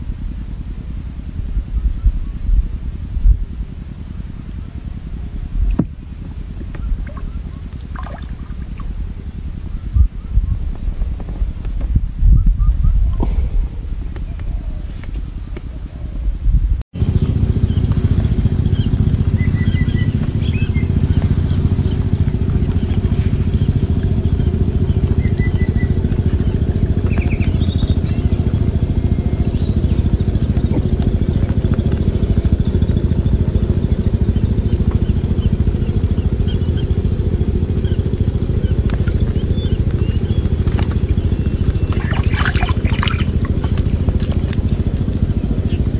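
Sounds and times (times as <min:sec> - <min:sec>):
motor droning: 0:00.0 - 0:12.2, 0:17.0 - 0:45.9.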